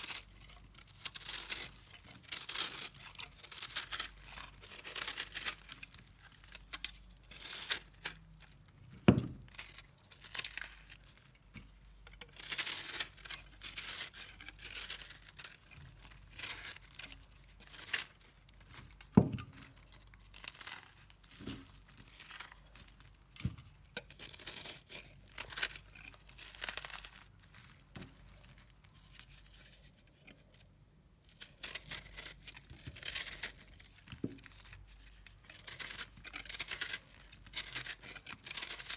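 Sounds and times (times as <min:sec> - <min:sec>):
soap crackling crunches: 0:00.0 - 0:29.5, 0:31.2 - 0:38.9.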